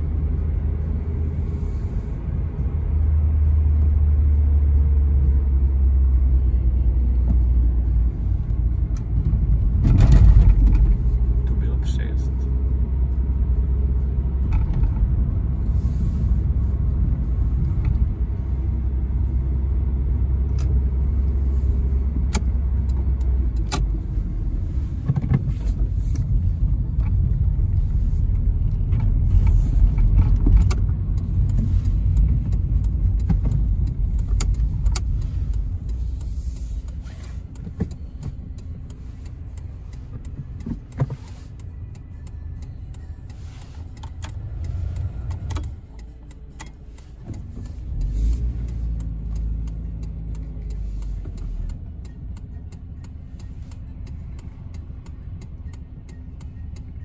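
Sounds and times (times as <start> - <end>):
low engine drone: 0.0 - 57.0
road and tyre noise: 0.0 - 57.0.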